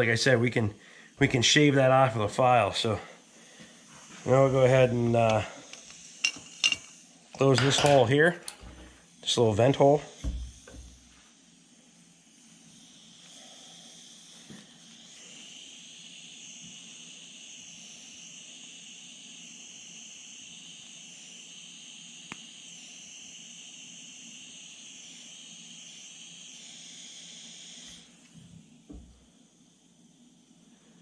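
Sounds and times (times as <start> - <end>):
gas torch hissing: 0.0 - 31.0.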